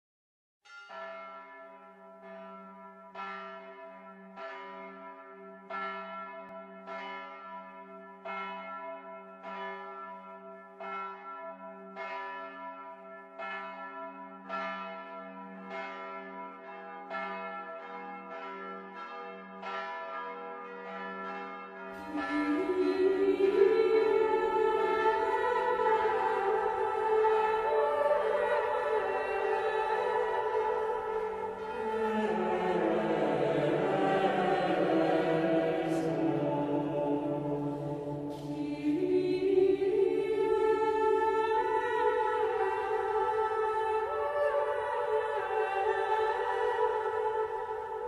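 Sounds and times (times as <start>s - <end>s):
church bell tolling: 0.7s - 48.0s.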